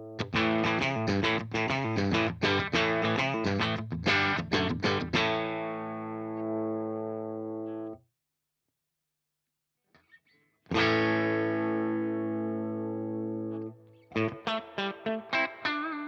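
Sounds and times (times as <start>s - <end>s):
electric guitar chords: 0.0s - 8.0s, 10.7s - 16.0s.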